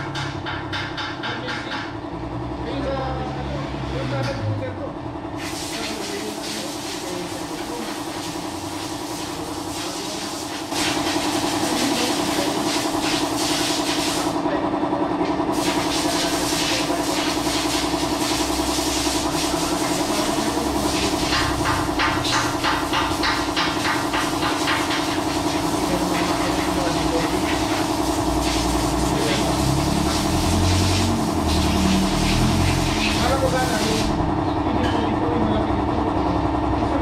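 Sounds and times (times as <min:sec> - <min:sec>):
machine drone with hiss: 0:05.3 - 0:14.7, 0:15.3 - 0:37.0.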